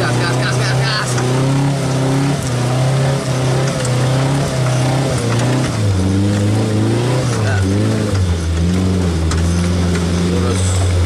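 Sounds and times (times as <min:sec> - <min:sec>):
off-road vehicle engine under load: 0:00.0 - 0:11.0.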